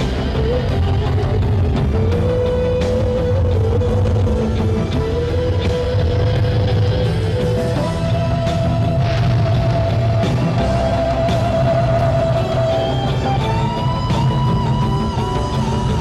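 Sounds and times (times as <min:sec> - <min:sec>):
rock background music: 0:00.0 - 0:16.0.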